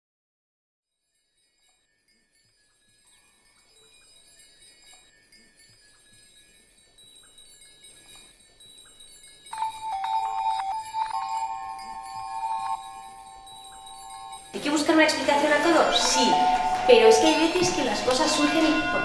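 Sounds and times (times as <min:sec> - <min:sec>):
high tinkling chimes: 0:00.9 - 0:19.0
bell-like ringing: 0:01.2 - 0:19.0.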